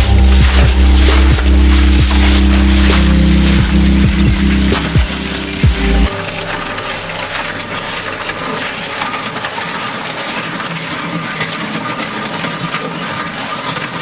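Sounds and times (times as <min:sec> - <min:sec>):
crushing machine grinding: 0:00.0 - 0:14.0.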